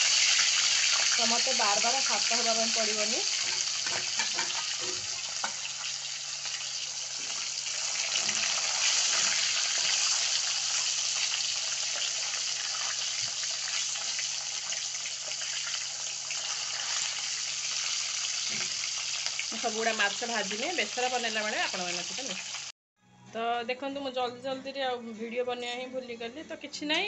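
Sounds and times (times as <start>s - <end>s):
fish sizzling in hot oil: 0.0s - 22.7s.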